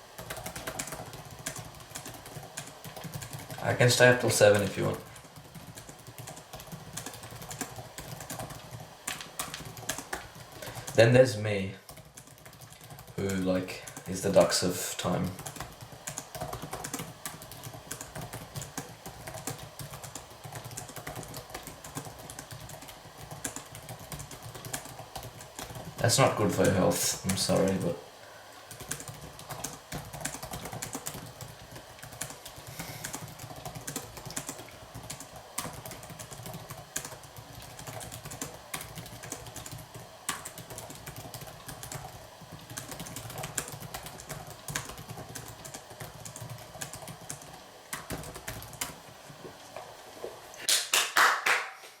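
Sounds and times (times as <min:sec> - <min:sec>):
fast typing on keyboard: 0:00.2 - 0:11.2, 0:11.9 - 0:28.0, 0:28.7 - 0:49.0.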